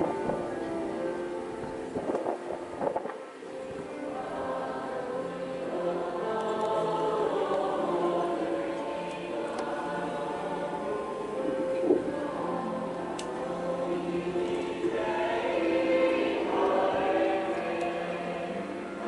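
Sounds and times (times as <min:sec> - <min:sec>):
choir singing: 0:03.6 - 0:19.0.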